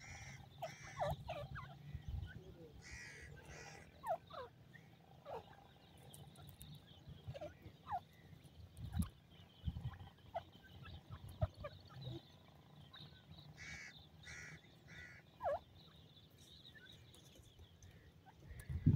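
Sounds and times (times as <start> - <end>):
pheasant harsh raspy calls: 0.0 - 6.6, 7.2 - 16.0.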